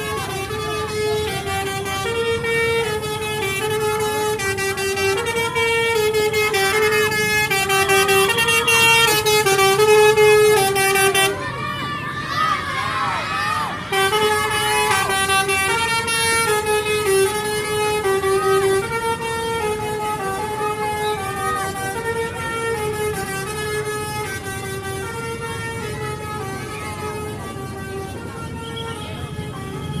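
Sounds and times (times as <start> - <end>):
multi-tone bus horn tune: 0.0 - 12.5, 13.5 - 30.0.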